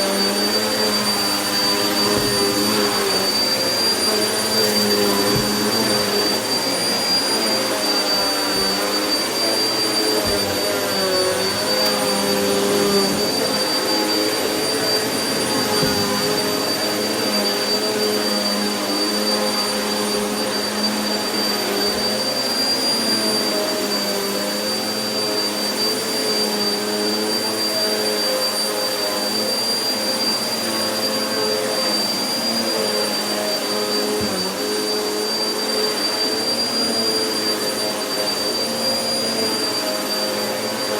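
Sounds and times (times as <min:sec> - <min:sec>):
vacuum cleaner running over carpet: 0:00.0 - 0:40.9.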